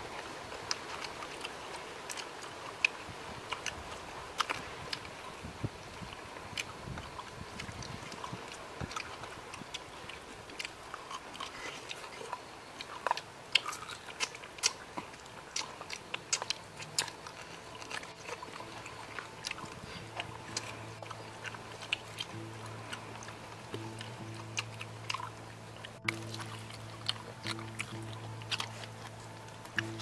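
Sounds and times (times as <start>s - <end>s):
people chewing wetly: 0.0s - 30.0s.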